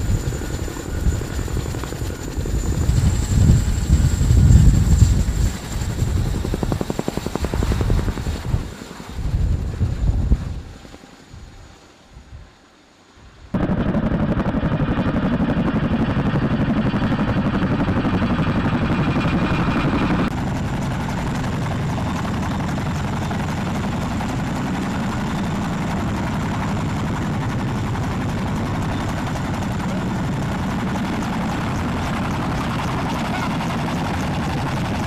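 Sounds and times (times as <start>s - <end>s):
helicopter rotor and turbine noise: 0.0s - 35.0s.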